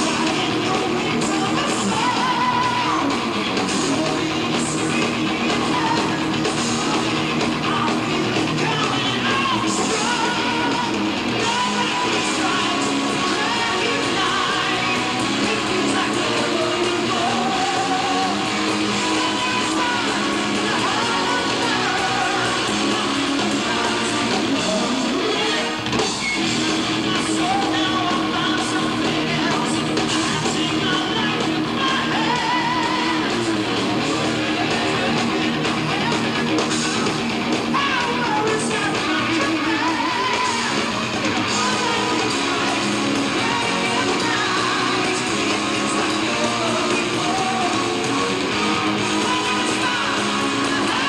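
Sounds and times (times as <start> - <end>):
electric guitar: 0.0 - 51.0
heavy metal band playing live: 0.0 - 51.0.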